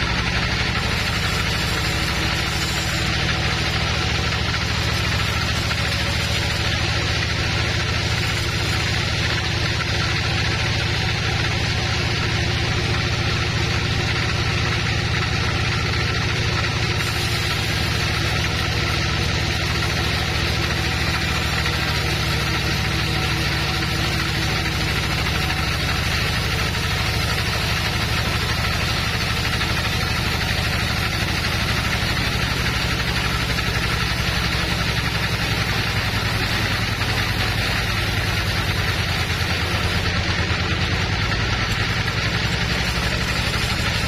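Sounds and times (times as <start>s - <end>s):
sawmill machinery drone: 0.0s - 44.0s.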